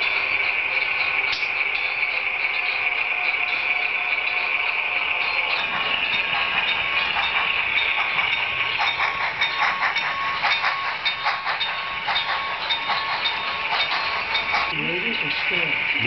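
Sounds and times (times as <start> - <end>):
model train whirring: 0.0 - 16.0
rapid clicking of train wheels: 0.0 - 16.0.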